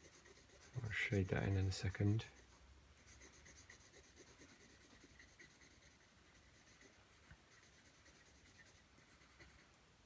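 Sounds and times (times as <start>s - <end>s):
pencil scratching on paper: 0.0s - 9.8s.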